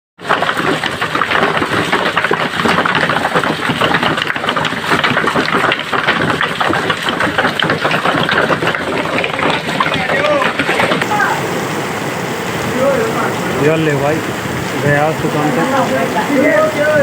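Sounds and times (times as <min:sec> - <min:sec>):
hail and rain pelting: 0:00.2 - 0:17.0.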